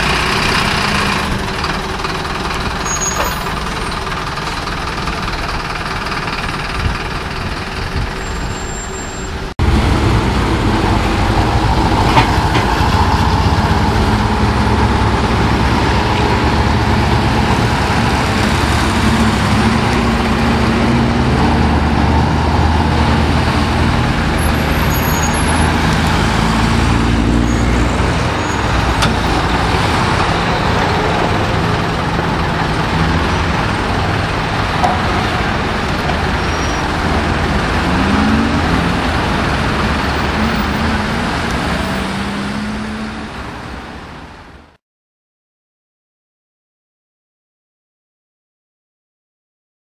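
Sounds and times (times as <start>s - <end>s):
heavy truck engine running: 0.0s - 44.7s
passing traffic engine tones: 0.0s - 44.7s
street traffic noise: 0.0s - 44.8s.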